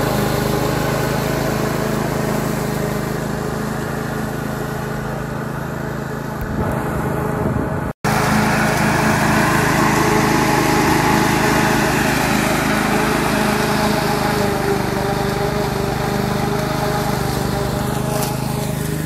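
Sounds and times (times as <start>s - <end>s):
lawn mower engine cutting grass: 0.0s - 19.0s.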